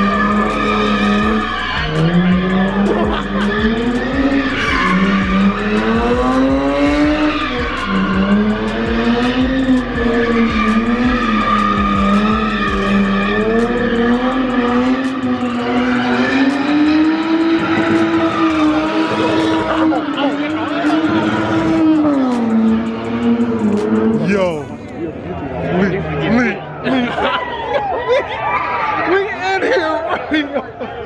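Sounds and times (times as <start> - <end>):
tyres squealing and skidding: 0.0 - 24.9
car engine revving: 0.0 - 25.0.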